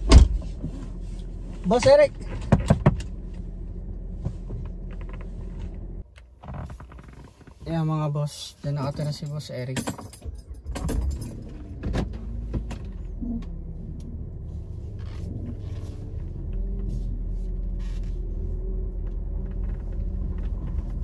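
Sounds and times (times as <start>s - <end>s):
car engine rumble from inside: 0.0s - 9.4s, 10.3s - 21.0s.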